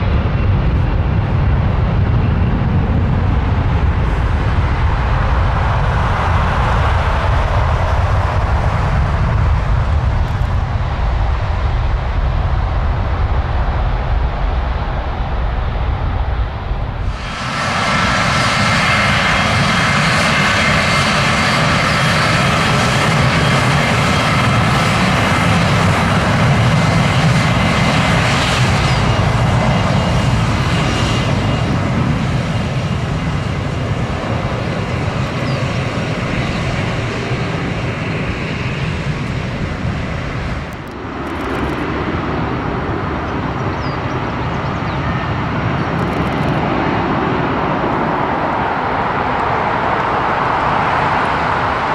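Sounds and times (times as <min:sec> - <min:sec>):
jet airliner taking off: 0:00.0 - 0:51.9.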